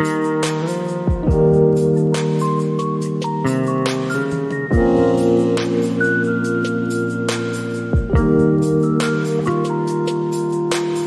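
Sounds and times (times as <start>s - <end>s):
music with held chords and light beat: 0.0s - 11.0s.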